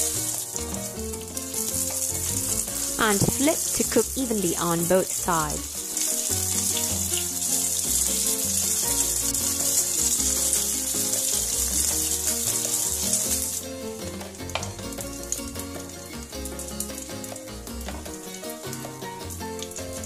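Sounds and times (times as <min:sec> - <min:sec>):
background music: 0:00.0 - 0:20.0
oil sizzling in a pan: 0:00.0 - 0:20.0.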